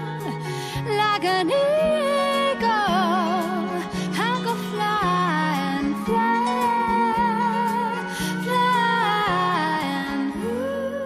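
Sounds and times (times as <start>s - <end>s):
song with sung melody: 0.0s - 11.0s.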